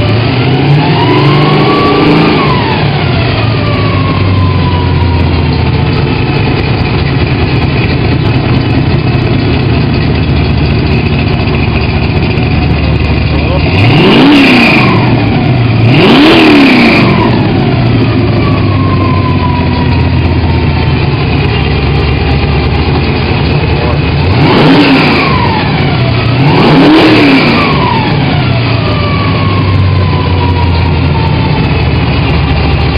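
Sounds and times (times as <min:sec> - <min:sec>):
loud engine revving: 0:00.0 - 0:32.9.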